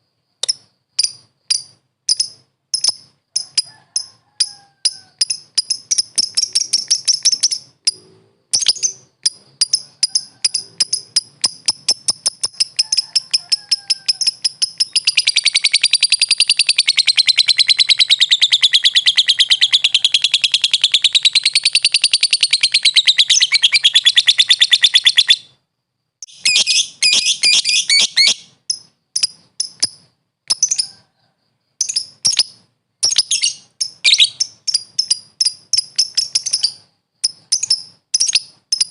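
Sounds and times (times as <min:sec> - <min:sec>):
lovebird chirping and trilling: 0:00.4 - 0:25.6, 0:26.2 - 0:31.0, 0:31.8 - 0:38.9.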